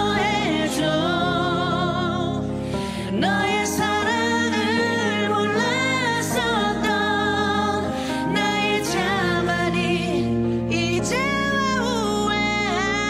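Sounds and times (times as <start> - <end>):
sustained keyboard accompaniment: 0.0 - 13.0
woman singing a ballad: 0.0 - 13.0.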